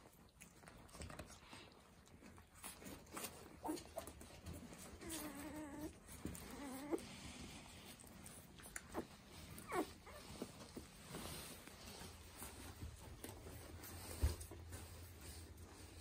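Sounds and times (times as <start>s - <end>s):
puppies whining and squeaking: 0.6s - 14.3s.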